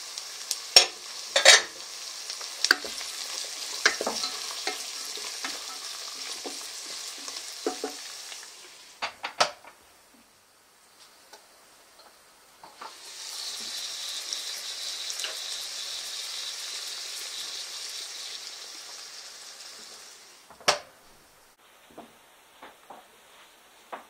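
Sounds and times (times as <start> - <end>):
peppers sizzling in oil: 0.0 - 9.6, 10.8 - 21.6.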